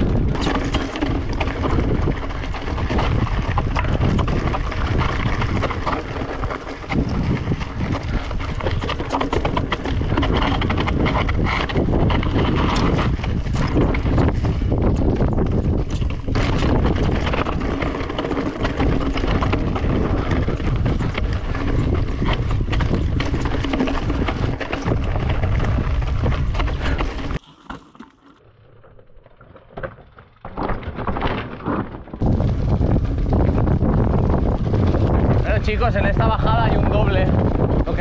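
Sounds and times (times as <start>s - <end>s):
wind buffeting microphone: 0.0s - 27.4s, 32.2s - 38.0s
bike rattling over rough ground: 0.0s - 38.0s.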